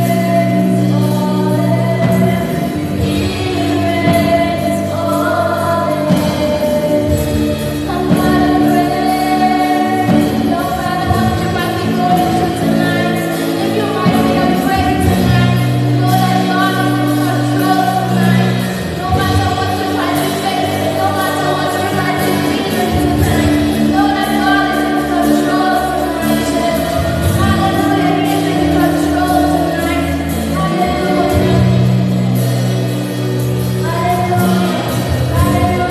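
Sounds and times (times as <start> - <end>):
gospel singing: 0.0 - 35.9
live band playing: 0.0 - 35.9.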